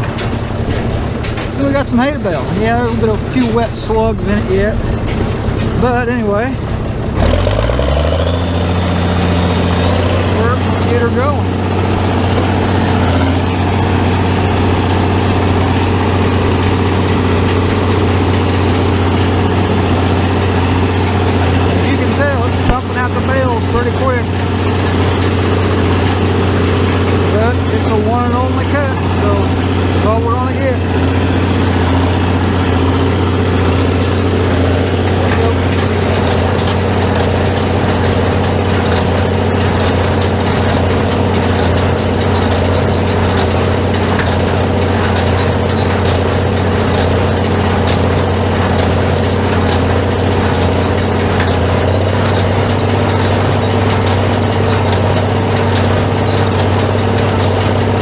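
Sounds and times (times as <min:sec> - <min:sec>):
baler working: 0:00.0 - 0:58.0
tractor engine drone: 0:00.0 - 0:58.0.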